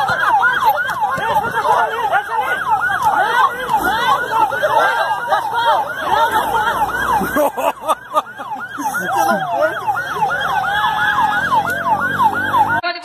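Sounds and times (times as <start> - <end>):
heavy vehicle engine hum: 0.0 - 12.8
emergency sirens yelping: 0.0 - 13.0.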